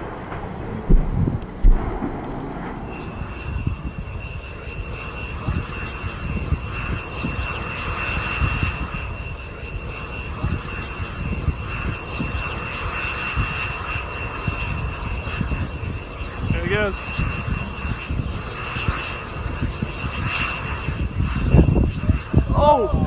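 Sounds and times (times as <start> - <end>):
propeller airplane engine running: 0.0 - 23.0
wind buffeting microphone: 0.0 - 23.0.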